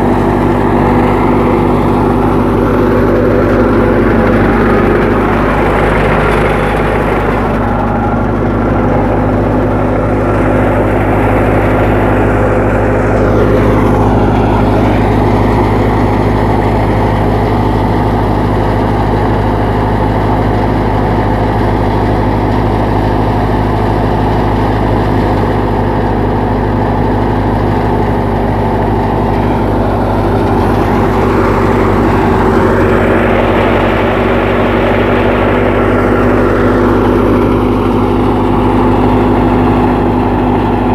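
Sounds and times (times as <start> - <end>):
thresher rushing noise: 0.0 - 40.9
tractor diesel engine running: 0.0 - 40.9.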